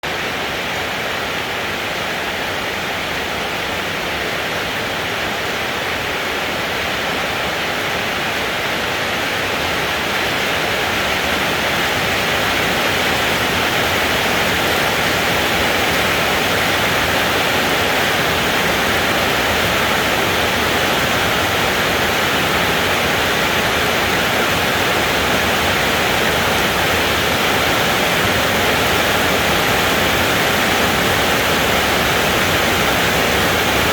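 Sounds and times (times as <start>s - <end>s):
heavy rain hissing: 0.0s - 33.9s.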